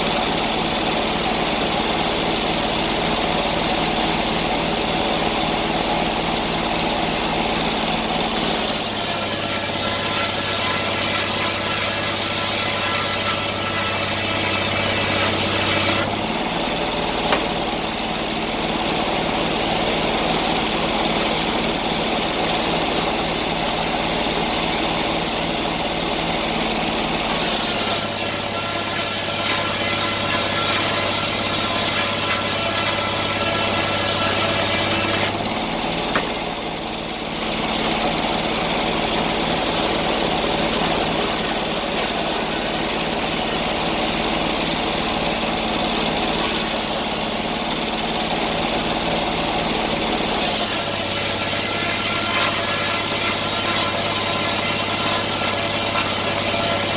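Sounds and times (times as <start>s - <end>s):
sawmill engine running: 0.0s - 56.9s.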